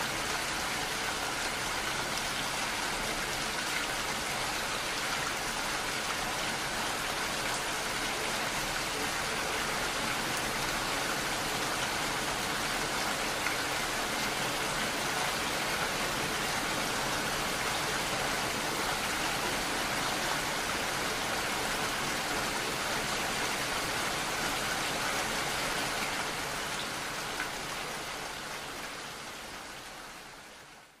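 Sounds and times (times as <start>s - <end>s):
steady rainfall: 0.0s - 31.0s.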